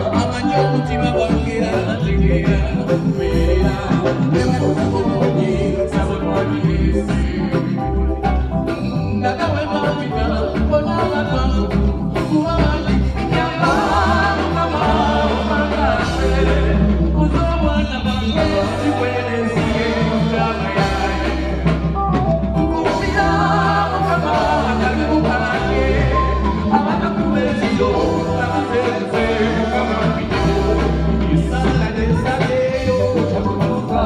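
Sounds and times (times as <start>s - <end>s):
live band music: 0.0s - 34.0s
person singing: 0.0s - 34.0s
prominent bass line: 0.0s - 34.0s.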